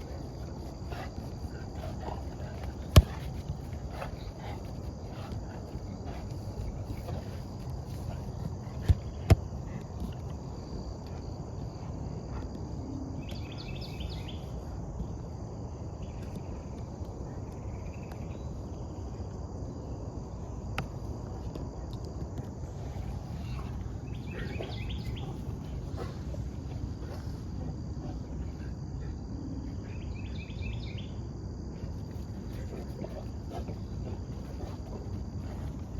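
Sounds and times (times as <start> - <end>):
insects trilling: 0.0 - 35.9
low background rumble: 0.0 - 35.9.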